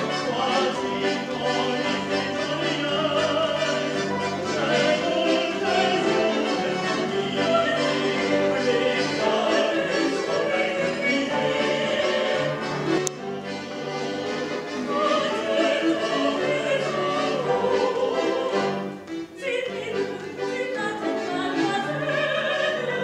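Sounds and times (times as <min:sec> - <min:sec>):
accordion: 0:00.0 - 0:23.0
piano: 0:00.0 - 0:23.0.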